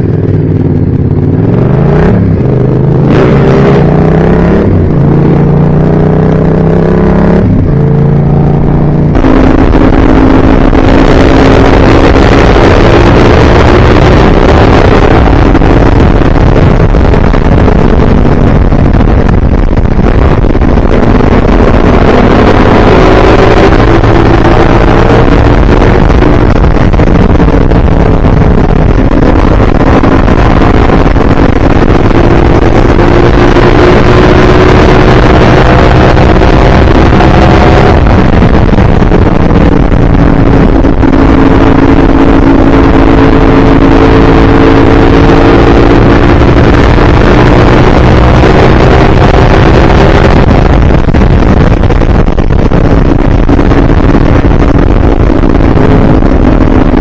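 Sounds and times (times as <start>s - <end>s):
vehicle engine accelerating: 0.0s - 57.0s.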